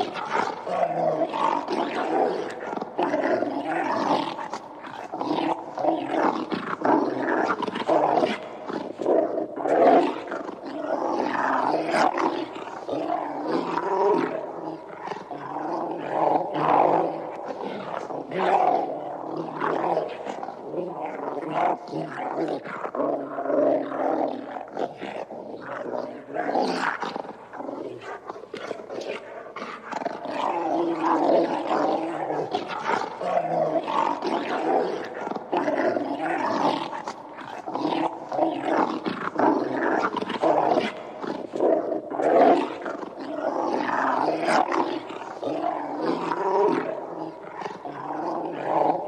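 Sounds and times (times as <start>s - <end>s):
dog growling and snarling: 0.0s - 49.0s.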